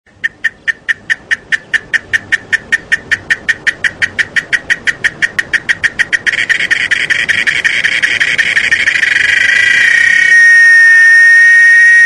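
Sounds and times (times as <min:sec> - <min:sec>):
cicada ticking and buzzing: 0:00.1 - 0:12.0.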